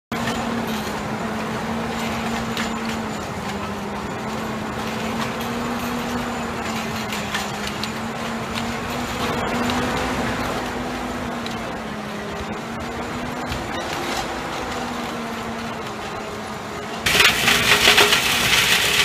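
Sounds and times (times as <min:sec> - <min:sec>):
tractor diesel engine running: 0:00.1 - 0:19.0.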